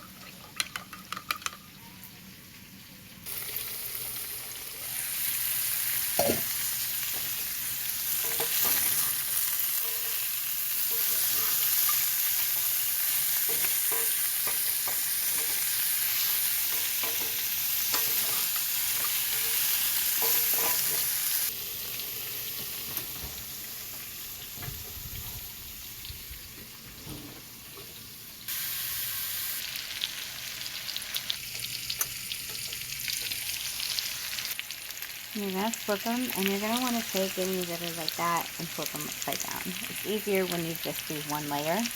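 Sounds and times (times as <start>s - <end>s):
potato slices sizzling in oil: 3.2s - 26.8s, 27.6s - 41.9s.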